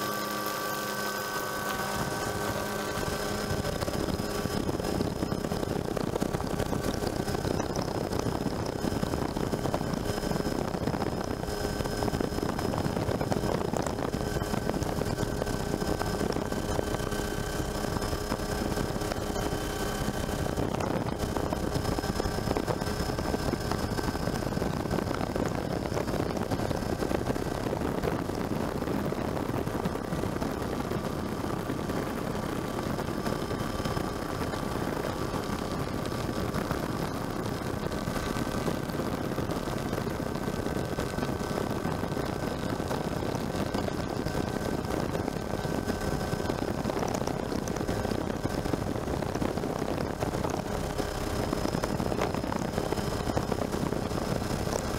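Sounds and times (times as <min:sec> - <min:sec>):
faint high whine: 0:00.0 - 0:54.9
helicopter rotor and engine: 0:00.0 - 0:54.9.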